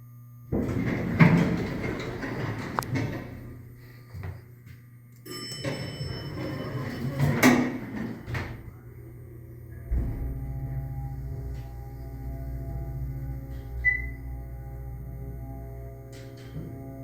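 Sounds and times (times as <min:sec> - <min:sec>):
low steady hum: 0:00.0 - 0:17.0
elevator chime: 0:00.6 - 0:03.6, 0:05.2 - 0:09.2, 0:09.9 - 0:16.8.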